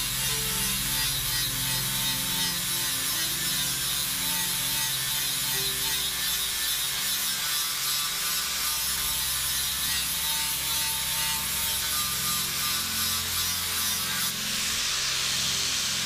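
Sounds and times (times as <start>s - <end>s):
angle grinder grinding metal: 0.0s - 16.0s.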